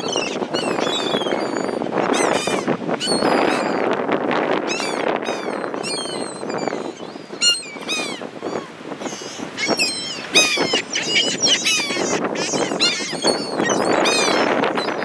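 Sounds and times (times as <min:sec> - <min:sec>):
seagulls calling: 0:00.0 - 0:03.9, 0:04.7 - 0:15.0.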